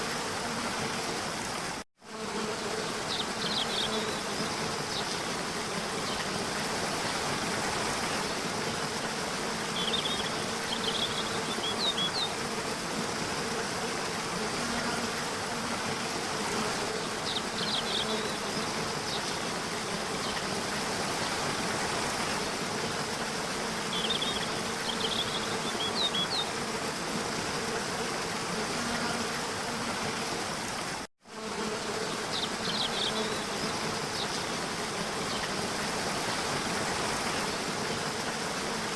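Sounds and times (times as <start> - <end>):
rushing water: 0.0 - 1.8, 2.8 - 31.1, 32.2 - 38.9
buzzing insects: 0.0 - 38.9.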